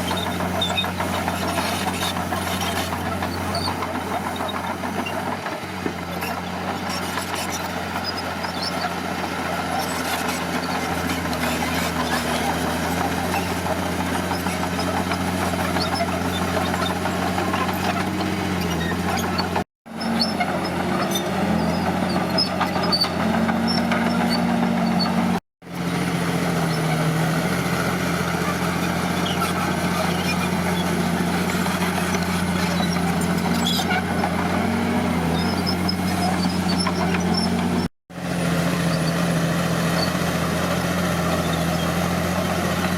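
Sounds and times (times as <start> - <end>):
heavy diesel engine under load: 0.0 - 42.9.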